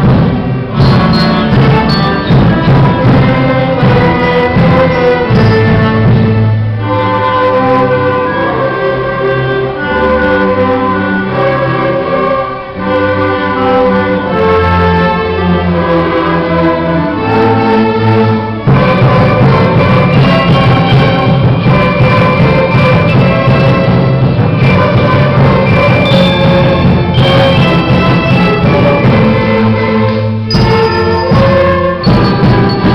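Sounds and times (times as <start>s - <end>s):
bowed strings melody: 0.0s - 32.9s
low accompaniment: 0.0s - 32.9s.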